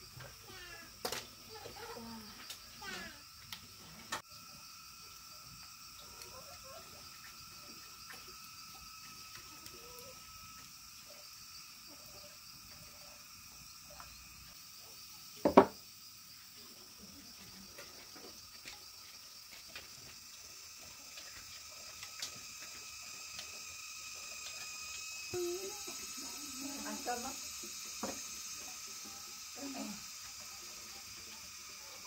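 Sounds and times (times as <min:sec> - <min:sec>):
high insect chirring: 0:00.0 - 0:32.0.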